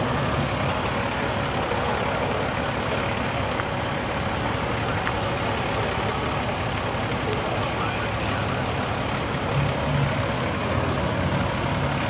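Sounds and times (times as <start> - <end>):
diesel engine idling: 0.0 - 12.0
street traffic: 0.0 - 12.0.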